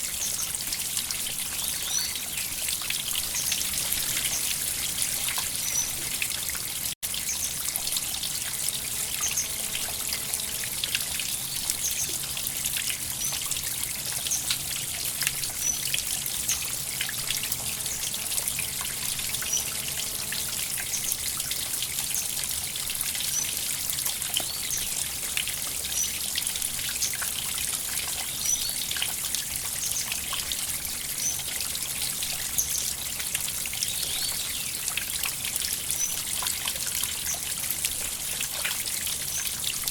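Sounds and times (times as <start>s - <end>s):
river water trickling over stones: 0.0s - 39.9s.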